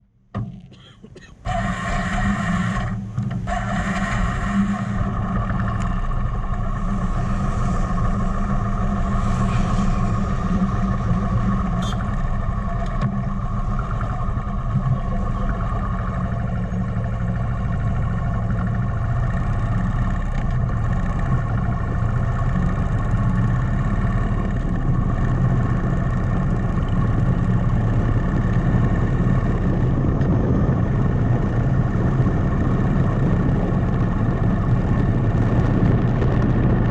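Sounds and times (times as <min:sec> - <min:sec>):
motorcycle engine running: 0:01.5 - 0:36.9.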